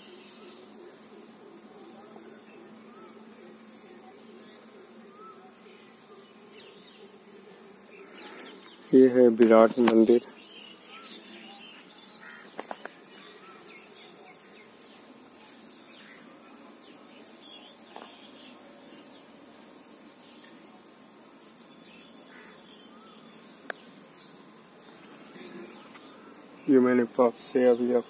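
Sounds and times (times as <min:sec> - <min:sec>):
high-pitched insect trill: 0:00.0 - 0:28.0.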